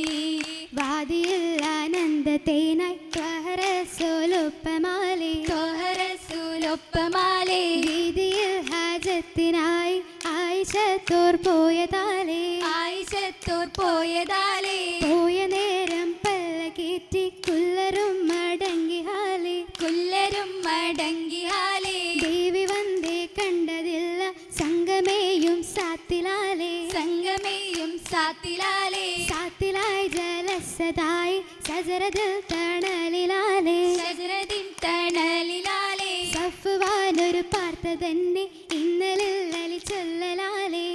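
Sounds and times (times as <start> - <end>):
rhythmic hand clapping: 0.0 - 40.9
women singing in a group: 0.0 - 40.9.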